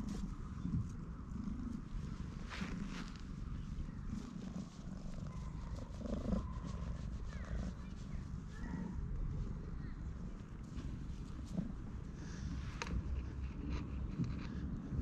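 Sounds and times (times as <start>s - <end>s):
hand brushing fur: 0.0s - 9.6s, 10.3s - 14.6s
cat purring: 0.0s - 15.0s.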